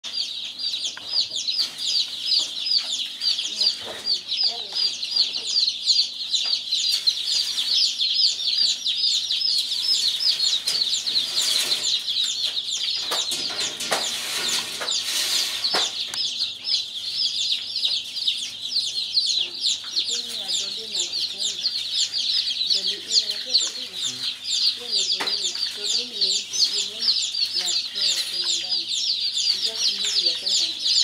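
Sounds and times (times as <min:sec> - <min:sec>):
chicks peeping: 0:00.0 - 0:31.0.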